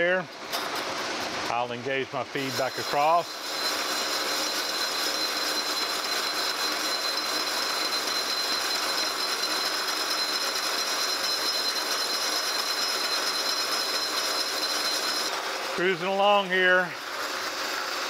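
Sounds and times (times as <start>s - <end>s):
milling machine cutting metal: 0.4s - 18.0s.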